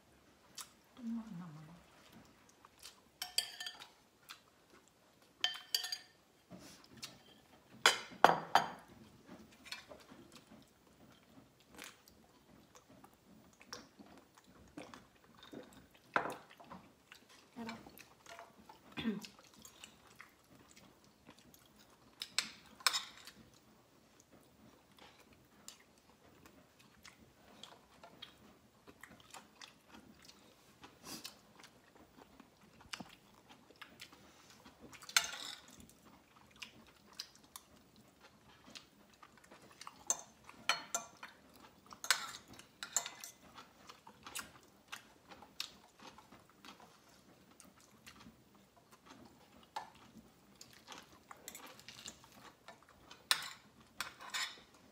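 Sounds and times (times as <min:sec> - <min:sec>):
person chewing food: 0:00.2 - 0:54.9.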